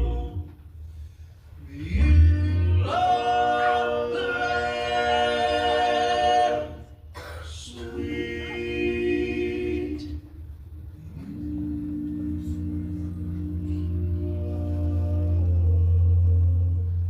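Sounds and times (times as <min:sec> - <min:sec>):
male vocal quartet singing harmony: 0:00.0 - 0:00.5, 0:01.6 - 0:10.3, 0:11.0 - 0:17.0.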